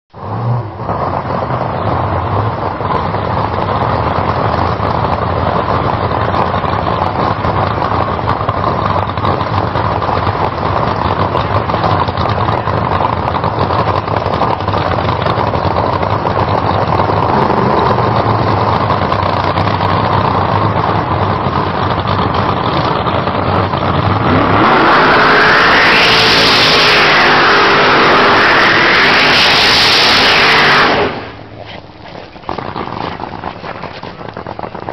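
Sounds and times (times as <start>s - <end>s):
drag-racing engine revving: 0.2s - 34.9s.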